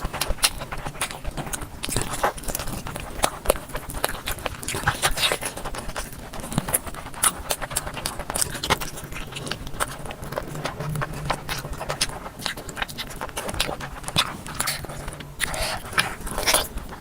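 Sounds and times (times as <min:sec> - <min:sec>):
close chewing and mouth sounds: 0:00.0 - 0:17.0.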